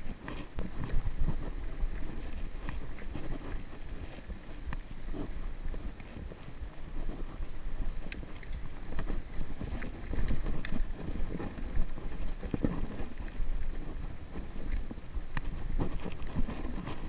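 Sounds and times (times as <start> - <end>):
stones clicking and bike rattling: 0.0 - 17.0.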